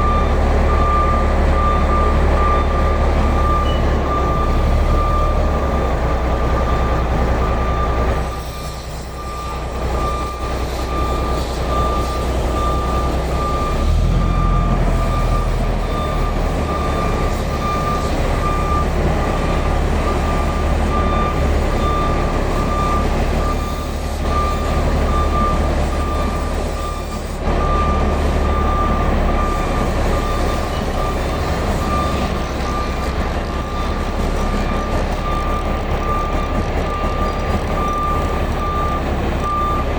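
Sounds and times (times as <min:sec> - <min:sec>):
diesel engine running under load: 0:00.0 - 0:39.9
reversing alarm beeping: 0:00.0 - 0:39.9.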